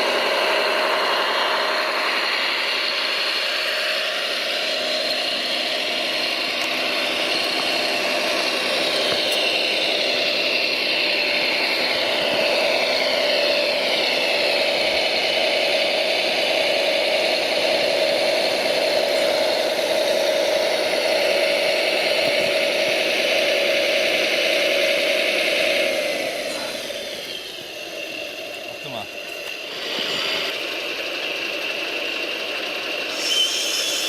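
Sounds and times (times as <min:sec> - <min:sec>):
steady motor whine: 0:00.0 - 0:34.0.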